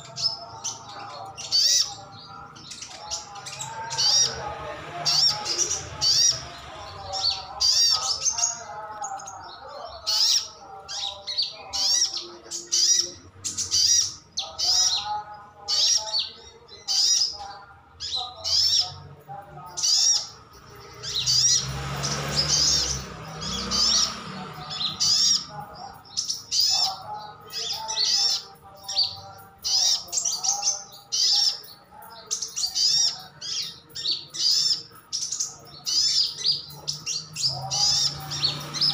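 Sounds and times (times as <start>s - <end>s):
sunbird singing high chirps: 0.0s - 38.9s.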